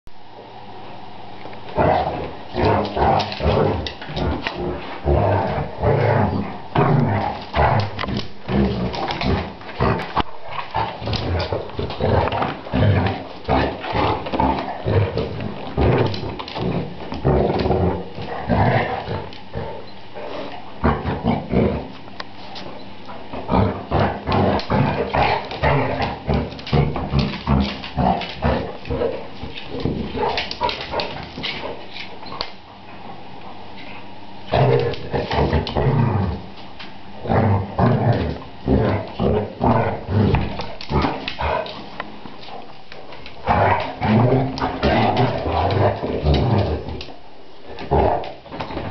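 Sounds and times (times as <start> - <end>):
dogs scuffling: 1.7 - 33.2, 33.8 - 48.9.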